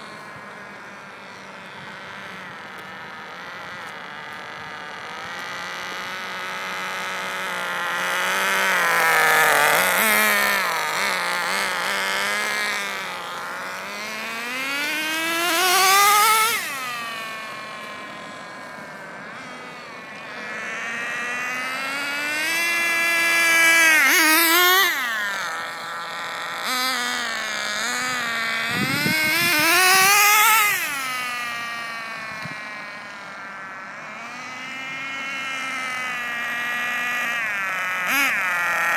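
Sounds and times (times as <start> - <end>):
model car engine at high revs: 0.0 - 38.9.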